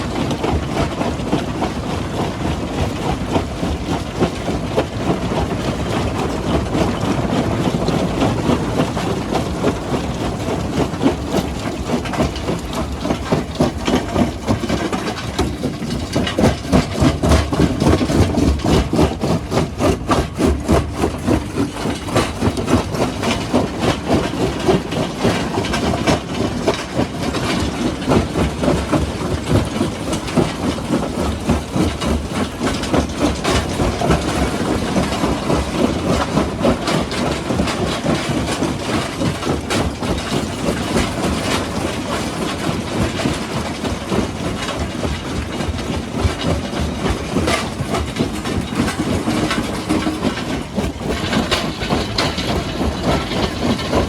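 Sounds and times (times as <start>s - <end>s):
rock crusher grinding rocks: 0.0s - 54.0s.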